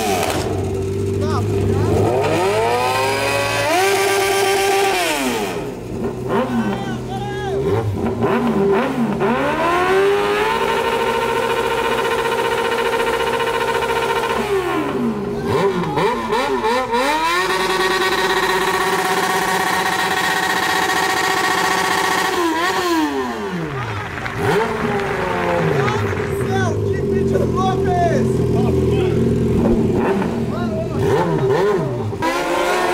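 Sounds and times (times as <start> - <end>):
motorcycle engines revving hard: 0.0 - 32.9.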